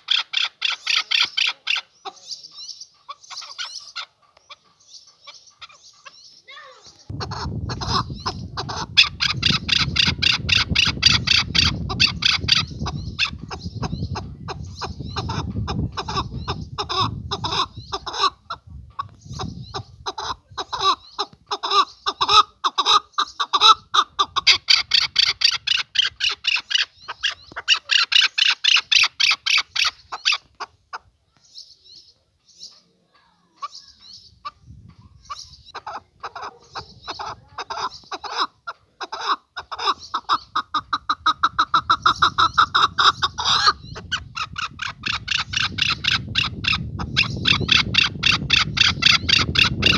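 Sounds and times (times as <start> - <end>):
partridge clucking call: 0.0 - 31.1, 35.2 - 49.9.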